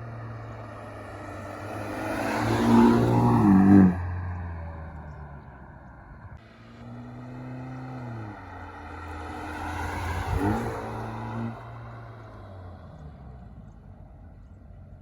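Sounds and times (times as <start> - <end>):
car engine and exhaust under load: 0.0 - 15.0.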